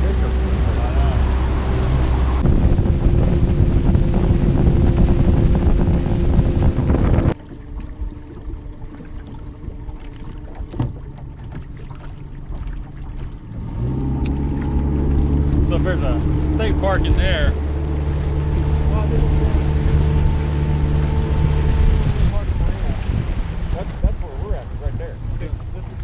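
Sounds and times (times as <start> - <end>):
boat engine hum: 0.0 - 26.0
rushing wind and water: 0.0 - 26.0
water against boat hull: 0.0 - 26.0.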